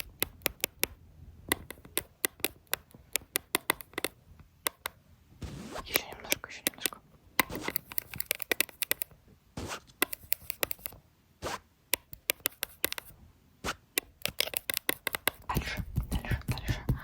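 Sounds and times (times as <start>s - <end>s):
crisp clicks and scratches: 0.0s - 17.0s.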